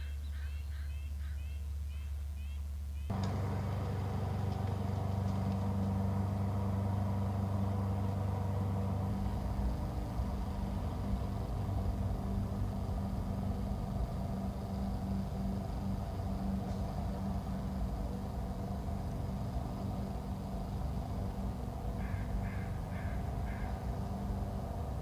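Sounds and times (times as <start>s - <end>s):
low engine-like hum: 0.0s - 25.0s.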